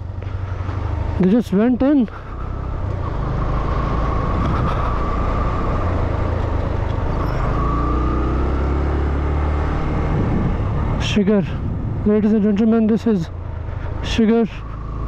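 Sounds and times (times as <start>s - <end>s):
motorcycle engine running: 0.0s - 15.0s
wind and road noise rumble: 0.0s - 15.0s.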